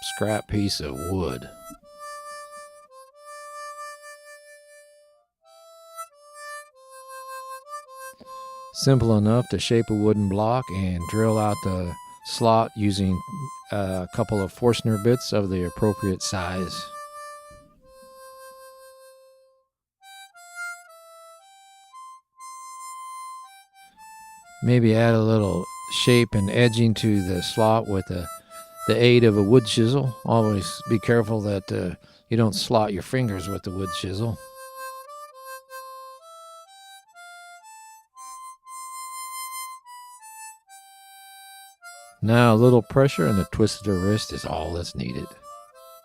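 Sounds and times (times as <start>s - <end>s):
harmonica playing slow tune: 0.0s - 46.0s
slow solo melody of held notes: 0.0s - 46.0s.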